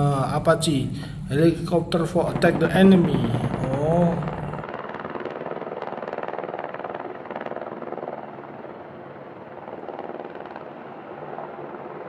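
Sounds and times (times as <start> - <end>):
helicopter flying by: 0.0 - 12.0.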